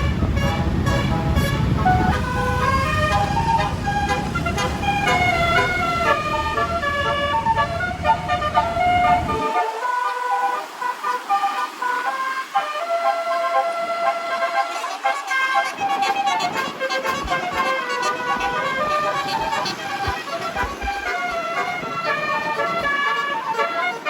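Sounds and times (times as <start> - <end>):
multi-tone bus horn tune: 0.0 - 24.0.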